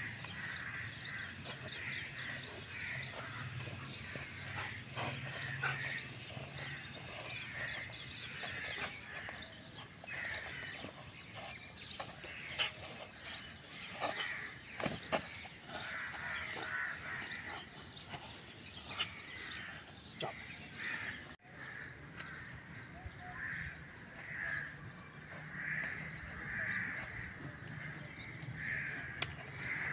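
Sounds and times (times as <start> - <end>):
birds calling and chattering: 0.0 - 29.9.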